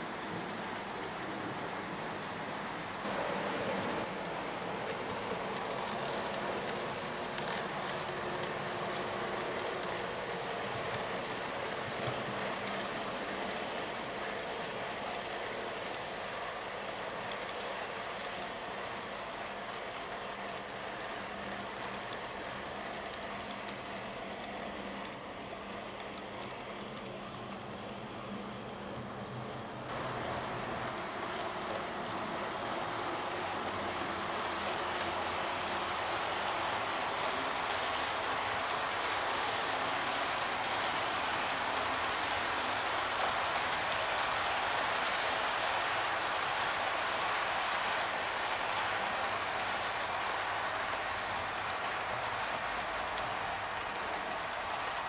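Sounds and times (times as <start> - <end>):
model train rumbling on track: 0.0 - 55.0
wheels rolling on rails: 0.0 - 55.0.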